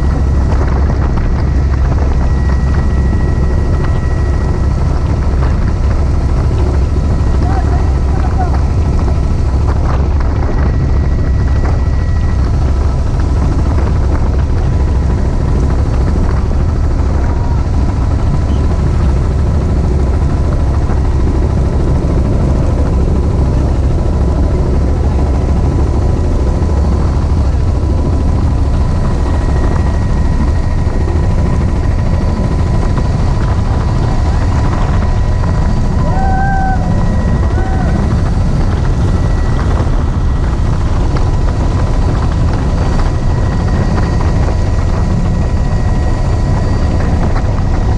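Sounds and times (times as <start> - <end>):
faint steady whining tones: 0.0 - 47.9
helicopter engine and rotor rumble: 0.0 - 47.9.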